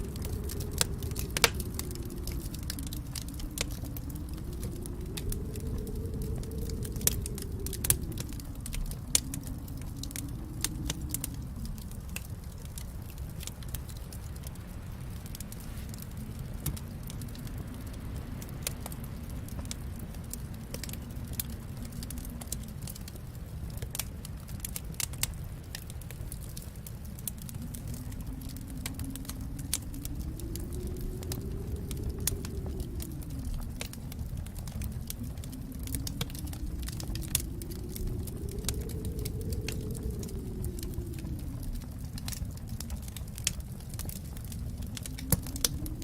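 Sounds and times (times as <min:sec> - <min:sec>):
faint low sound rising and falling: 0:00.0 - 0:46.0
wood fire crackling: 0:00.0 - 0:46.0.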